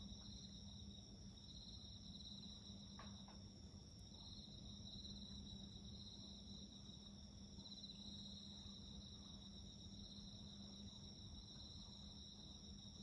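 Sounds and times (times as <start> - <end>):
crickets and insects chirring: 0.0 - 13.0.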